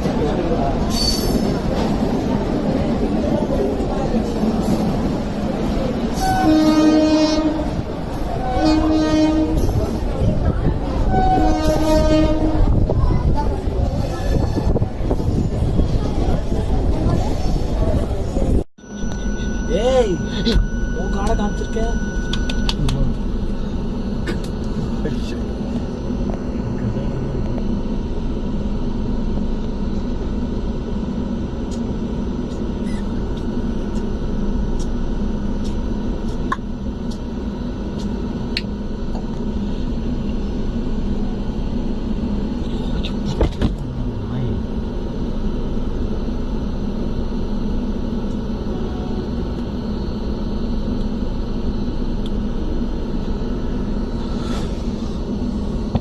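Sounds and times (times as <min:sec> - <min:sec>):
passenger train rumbling: 0:00.0 - 0:56.0.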